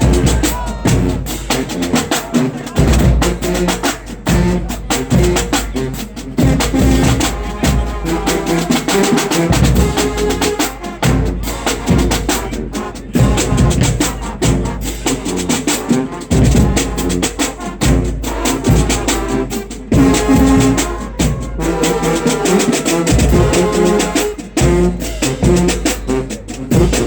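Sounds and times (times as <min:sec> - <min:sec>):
brass section chords: 0:00.0 - 0:27.0
snare drum: 0:00.0 - 0:27.0.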